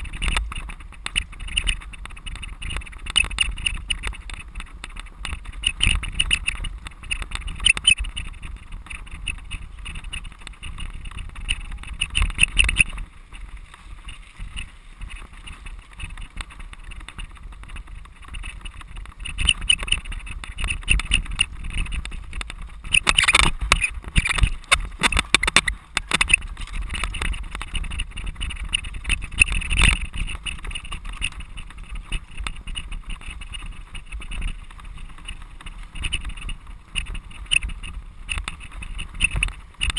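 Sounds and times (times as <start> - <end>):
bike rattling and knocking: 0.0 - 39.9
wind noise: 0.0 - 39.9.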